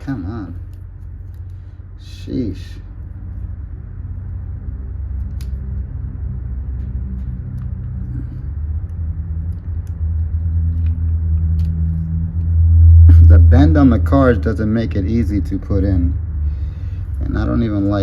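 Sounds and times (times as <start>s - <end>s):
low hum: 0.0s - 18.0s
low rumble: 0.0s - 18.0s.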